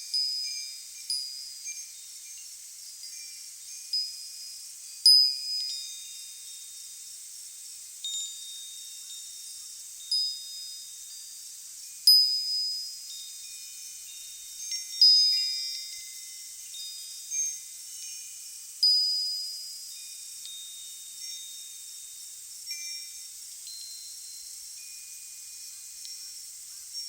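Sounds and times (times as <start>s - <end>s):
wind chimes ringing: 0.0s - 7.3s, 8.0s - 27.0s
faint steady hiss: 0.0s - 27.0s.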